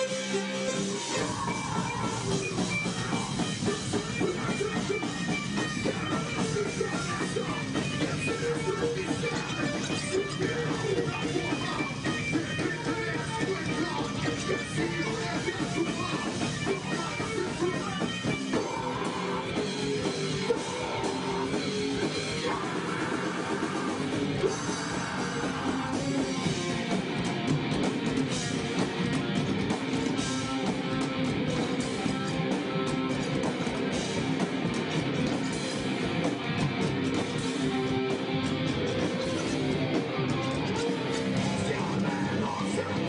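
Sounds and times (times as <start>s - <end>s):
drum kit: 0.0s - 43.0s
electric guitar: 0.0s - 43.0s.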